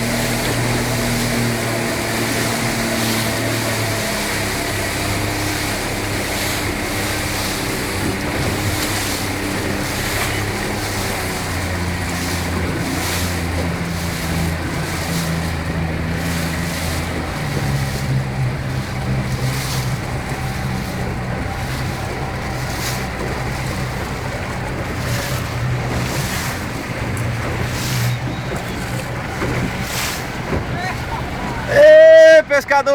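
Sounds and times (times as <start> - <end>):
motorboat engine running: 0.0 - 32.9
wind and water rushing: 0.0 - 32.9.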